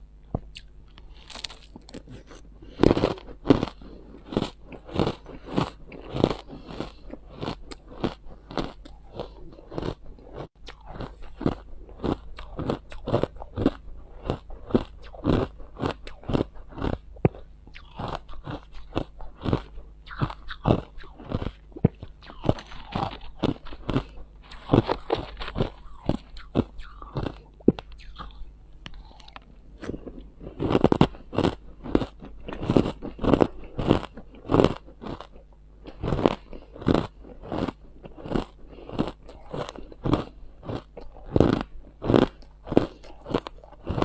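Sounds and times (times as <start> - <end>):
ice crunching being chewed: 0.4 - 44.0.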